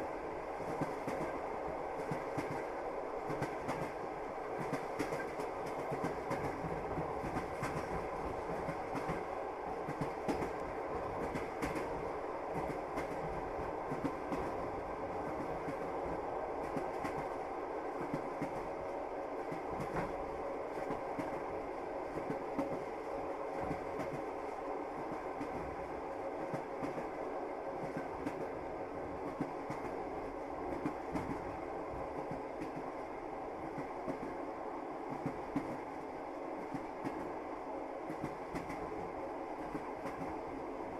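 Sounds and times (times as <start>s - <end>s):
train rumbling on track: 0.0s - 40.9s.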